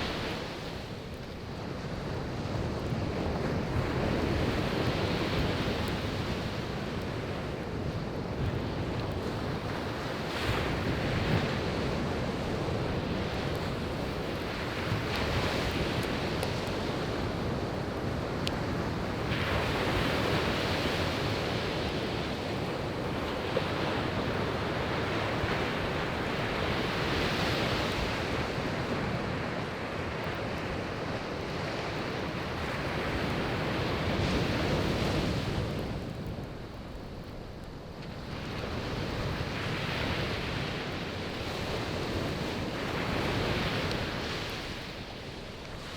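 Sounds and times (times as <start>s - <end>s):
campfire crackling: 0.0s - 45.9s
sea waves breaking on beach: 0.0s - 45.9s.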